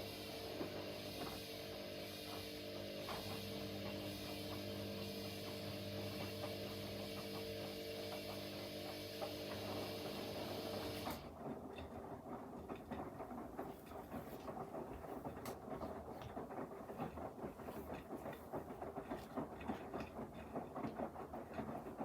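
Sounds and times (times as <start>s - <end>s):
washing drum patter and clicks: 0.0s - 22.0s
washing machine motor hum: 0.0s - 22.0s.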